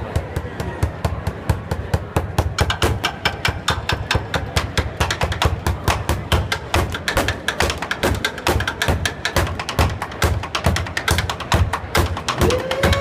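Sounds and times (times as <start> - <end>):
sticks drumming on plastic bin: 0.0 - 13.0.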